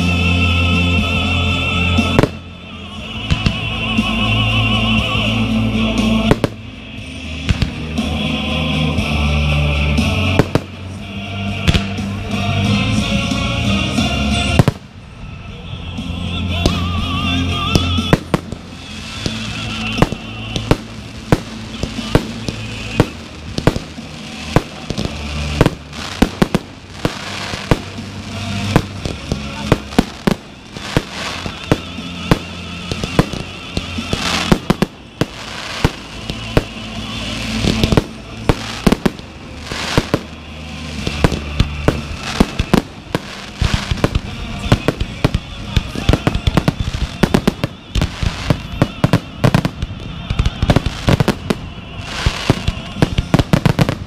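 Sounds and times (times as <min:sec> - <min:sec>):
fireworks bursting with bangs: 0:00.0 - 0:09.1, 0:09.8 - 0:15.2, 0:16.4 - 0:54.0
music over loudspeakers: 0:00.0 - 0:54.0.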